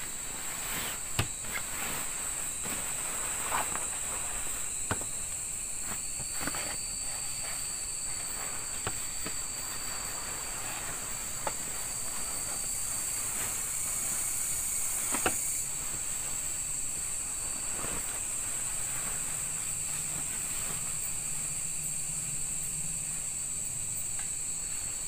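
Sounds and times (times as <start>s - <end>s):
sleeping bag rustling: 0.0s - 23.4s
broad hiss: 0.0s - 25.0s
night insects droning: 0.0s - 25.0s
thin whine: 0.0s - 25.0s.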